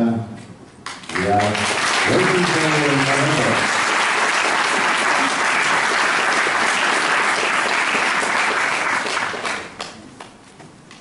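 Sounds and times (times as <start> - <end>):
audience applauding: 0.9 - 10.0.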